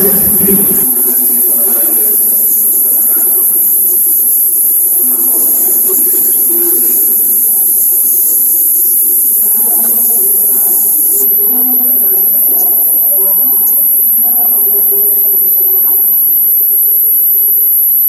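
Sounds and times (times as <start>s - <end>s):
high-pitched electronic hiss: 0.0s - 18.0s.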